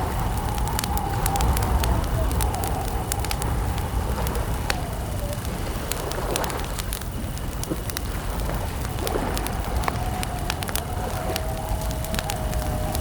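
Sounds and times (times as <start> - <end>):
campfire crackling and popping: 0.0 - 13.0
low steady rumble: 0.0 - 13.0.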